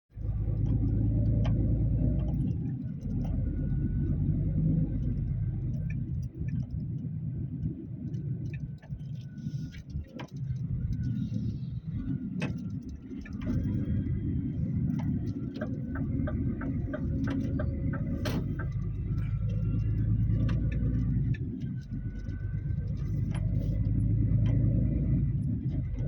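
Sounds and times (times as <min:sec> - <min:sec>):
low rumble: 0:00.1 - 0:26.0.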